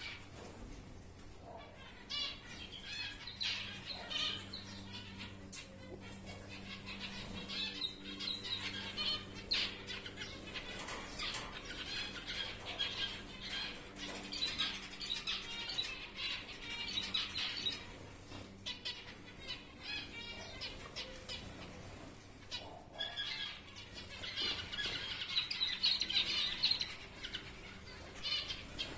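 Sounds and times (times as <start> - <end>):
steady low hum: 0.0 - 28.9
finches calling: 1.4 - 28.9.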